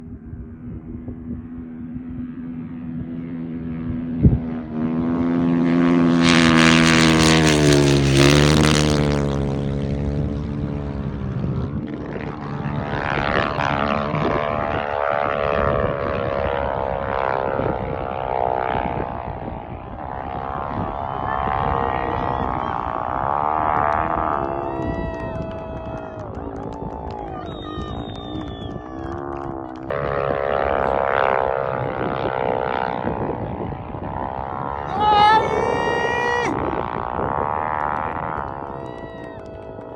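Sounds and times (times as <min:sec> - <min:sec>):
motorcycle engine at full throttle: 0:00.0 - 0:35.0.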